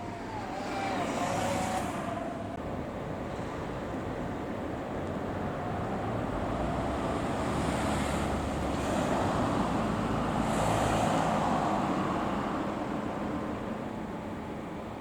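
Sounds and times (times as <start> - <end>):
fire truck driving past: 0.0 - 13.8.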